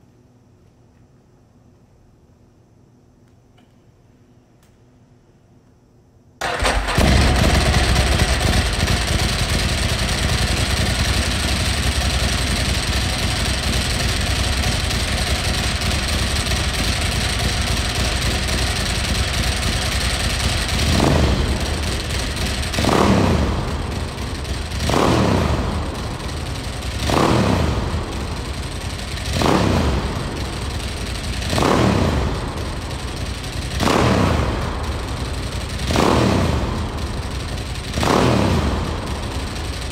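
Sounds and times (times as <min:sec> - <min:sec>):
motorcycle engine starting and idling: 0:06.4 - 0:39.9
engine revs blipped: 0:06.5 - 0:39.9.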